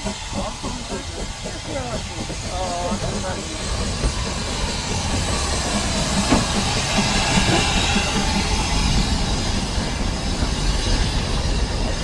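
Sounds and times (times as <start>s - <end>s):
steam locomotive hissing steam: 0.0s - 12.0s
train wheels rolling over rails: 0.0s - 12.0s.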